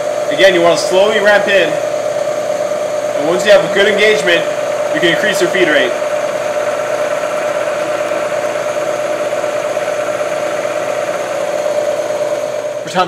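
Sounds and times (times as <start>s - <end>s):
milling machine cutting metal: 0.0s - 13.0s.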